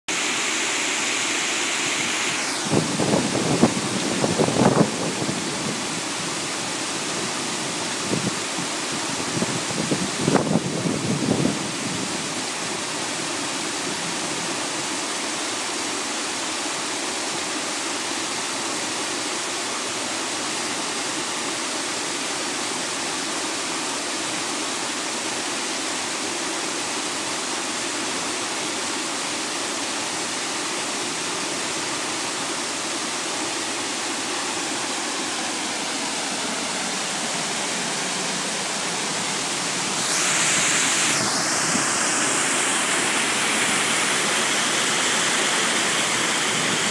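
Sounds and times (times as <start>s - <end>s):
waterfall splashing: 0.1s - 46.9s.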